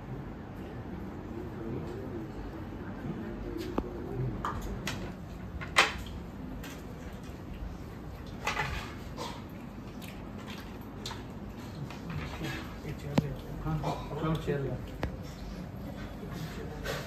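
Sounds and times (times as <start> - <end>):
room murmur: 0.0 - 17.0.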